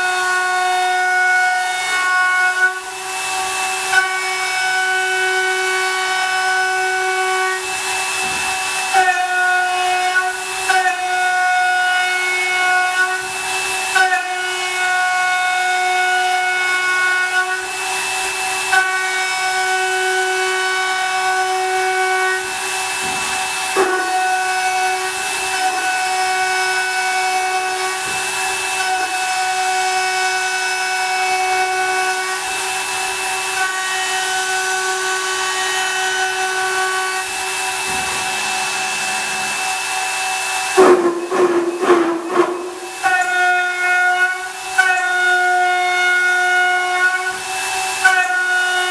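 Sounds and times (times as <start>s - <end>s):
milling machine whine: 0.0s - 48.9s.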